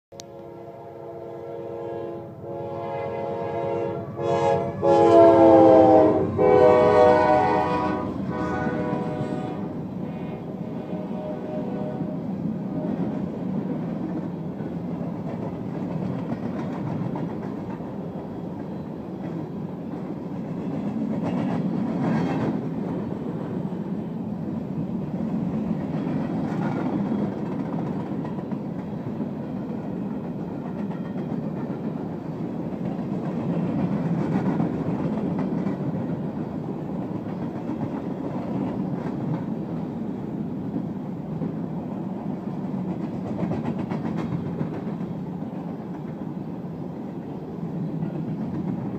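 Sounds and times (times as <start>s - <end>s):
freight train wheels rumbling: 0.1s - 48.9s.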